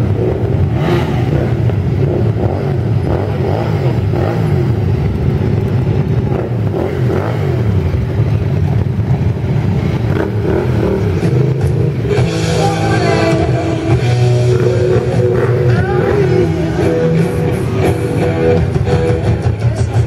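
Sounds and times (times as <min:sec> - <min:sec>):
motorcycle revving and pulling away: 0:00.0 - 0:19.7
motorcycle engines idling: 0:00.0 - 0:20.0.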